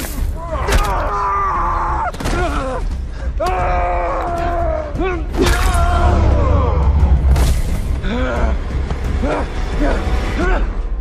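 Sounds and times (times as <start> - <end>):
men grunting and groaning: 0.3 - 7.3, 7.9 - 11.0.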